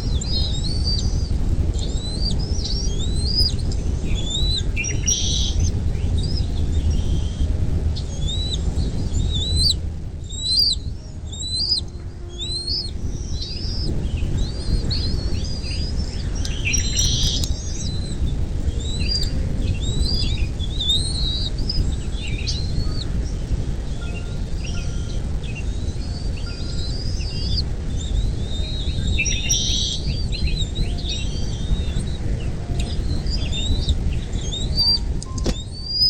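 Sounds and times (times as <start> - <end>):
birds chirping: 0.0 - 36.0
steady low rumble: 0.0 - 36.0.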